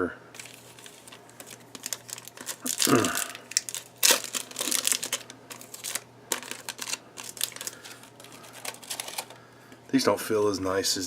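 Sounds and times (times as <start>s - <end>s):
cards flipping and rustling: 0.4s - 9.4s.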